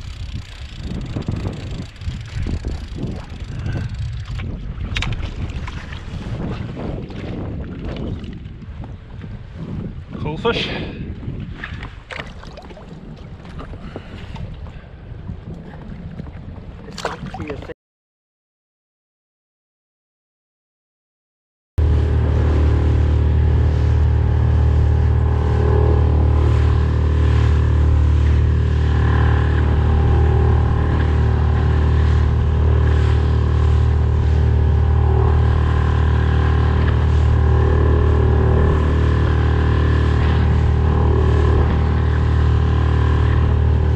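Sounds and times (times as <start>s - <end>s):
outboard motor droning: 0.0s - 17.7s, 21.8s - 43.9s
wind noise: 0.0s - 17.7s, 21.8s - 43.9s
water noise: 0.0s - 17.8s, 21.8s - 43.9s.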